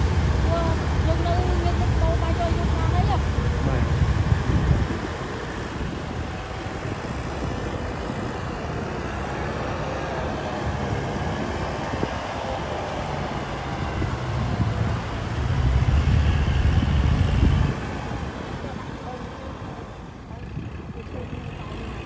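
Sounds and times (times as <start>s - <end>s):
tractor diesel engines rumbling: 0.0s - 22.0s.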